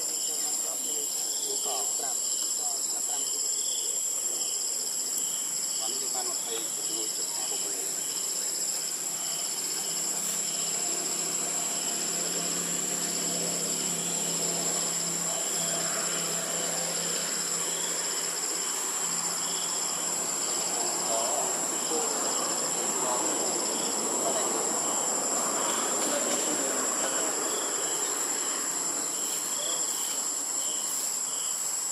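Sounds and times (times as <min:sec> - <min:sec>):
insects high-pitched whine: 0:00.0 - 0:31.9
insects pulsing chirps: 0:00.0 - 0:31.9.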